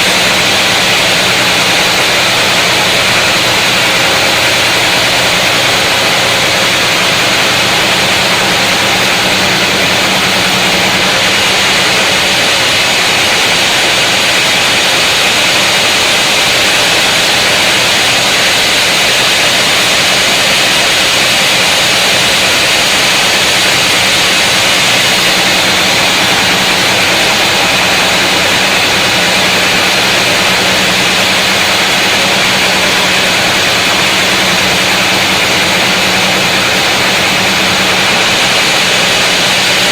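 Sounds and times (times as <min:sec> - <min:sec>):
saw cutting log hiss: 0:00.0 - 0:39.9
sawmill machine hum: 0:00.0 - 0:39.9.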